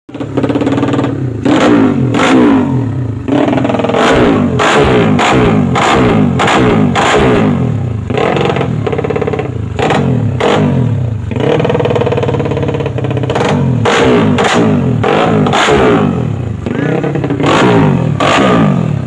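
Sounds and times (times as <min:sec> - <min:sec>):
motorcycle engine revving: 0:00.1 - 0:19.0.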